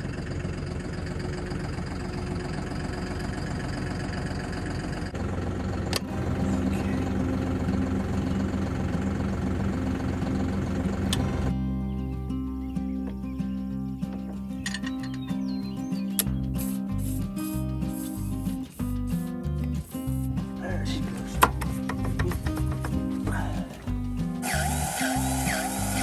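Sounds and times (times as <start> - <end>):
engine idling: 0.0 - 12.2, 13.0 - 26.0.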